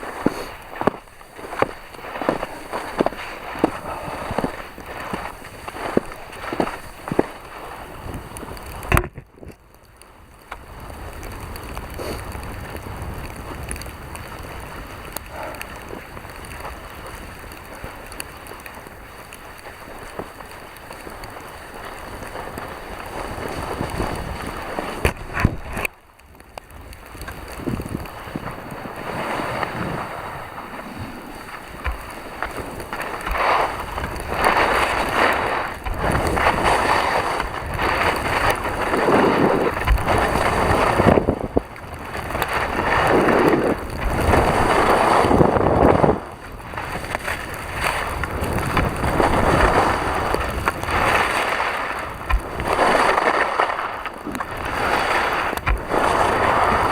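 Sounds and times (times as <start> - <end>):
wind buffeting microphone: 10.2 - 56.9.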